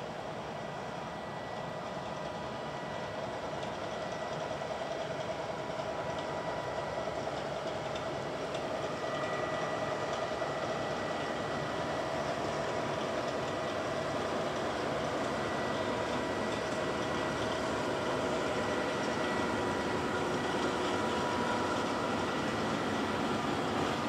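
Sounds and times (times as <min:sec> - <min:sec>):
ship machinery hum: 0:04.6 - 0:24.0.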